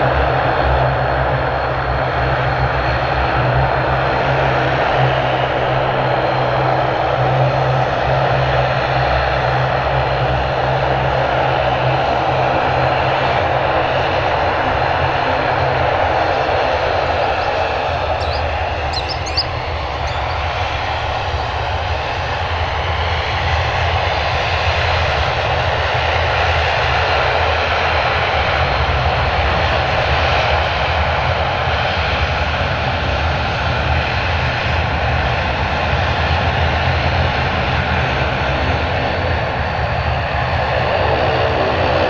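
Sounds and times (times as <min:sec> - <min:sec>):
airliner engines droning: 0:00.0 - 0:42.0.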